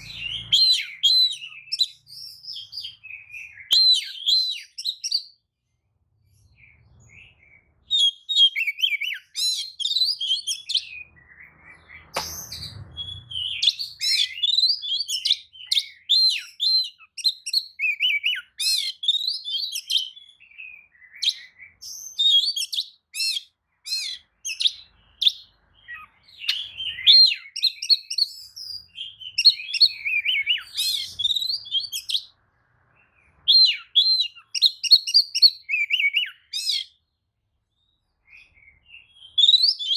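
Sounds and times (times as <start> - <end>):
bird singing whistles and trills: 0.0 - 5.5, 6.4 - 39.9.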